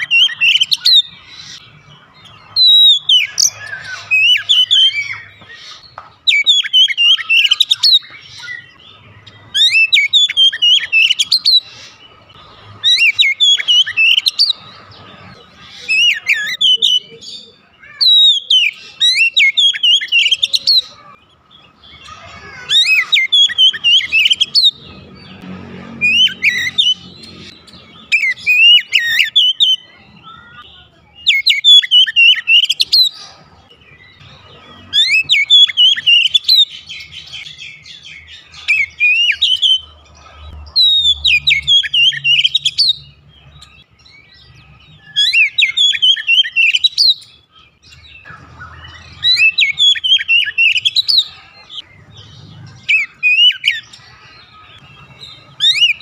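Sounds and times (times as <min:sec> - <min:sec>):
bird singing whistled notes: 0:00.0 - 0:12.1, 0:12.8 - 0:14.7, 0:15.8 - 0:25.4, 0:26.0 - 0:30.6, 0:31.2 - 0:33.2, 0:40.7 - 0:51.2, 0:51.8 - 0:56.0.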